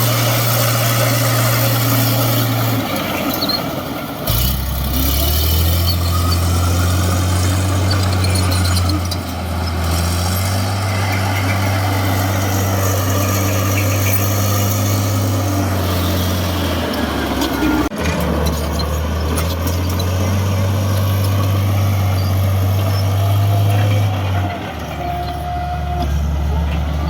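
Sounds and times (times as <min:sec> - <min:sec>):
heavy diesel engine humming: 0:00.0 - 0:27.0.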